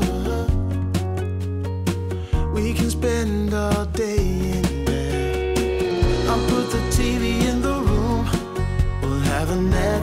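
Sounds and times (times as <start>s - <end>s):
pop song: 0.0s - 10.0s.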